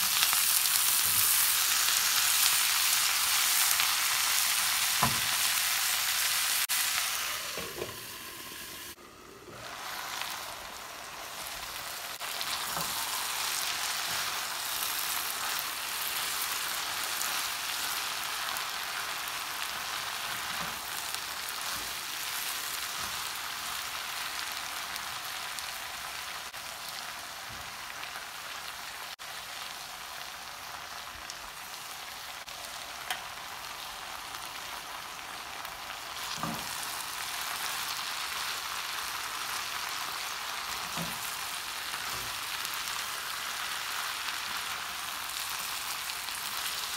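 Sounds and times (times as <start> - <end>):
vegetables sizzling in hot oil: 0.0 - 46.9.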